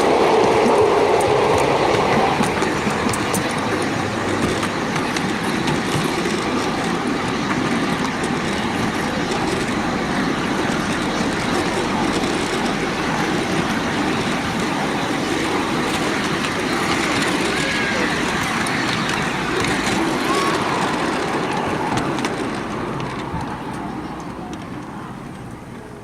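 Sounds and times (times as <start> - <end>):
miniature railway train running: 0.0 - 26.0.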